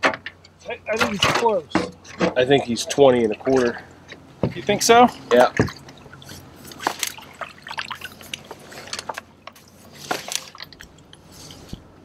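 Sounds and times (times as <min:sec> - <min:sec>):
water sloshing and dripping: 0:00.9 - 0:12.0.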